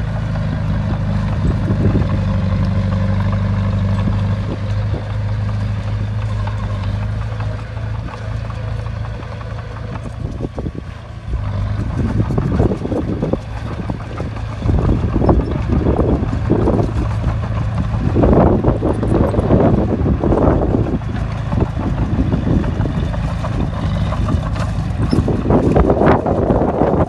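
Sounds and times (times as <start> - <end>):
bulldozer diesel engine running: 0.0 - 27.0
rumbling gusts of noise: 0.0 - 27.0.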